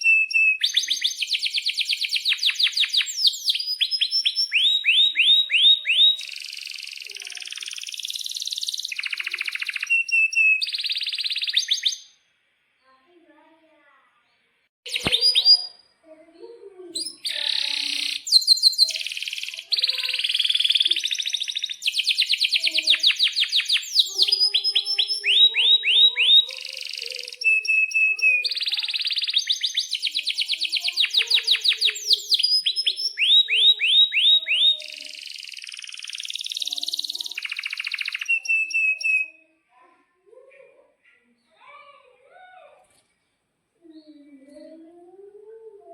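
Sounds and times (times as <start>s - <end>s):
canary singing: 0.0s - 12.2s, 14.9s - 42.0s.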